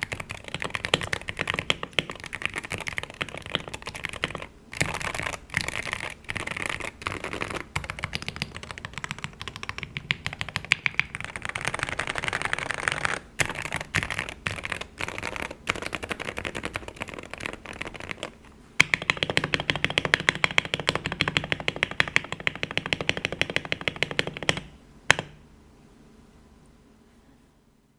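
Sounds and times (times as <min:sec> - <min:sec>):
fast keyboard typing: 0:00.0 - 0:25.3.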